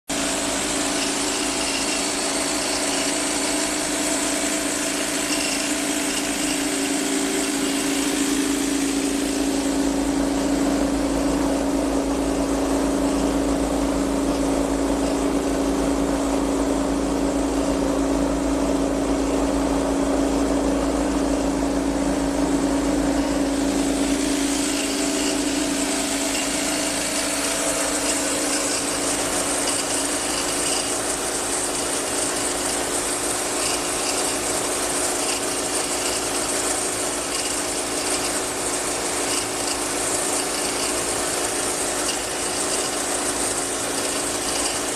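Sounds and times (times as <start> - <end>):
rice mill humming: 0.1 - 44.9.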